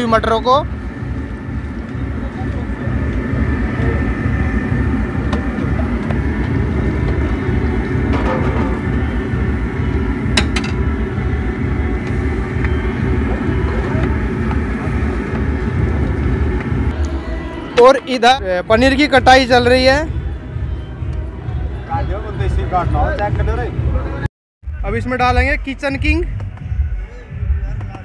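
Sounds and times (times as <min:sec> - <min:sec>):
loud low rumble: 0:00.0 - 0:28.0.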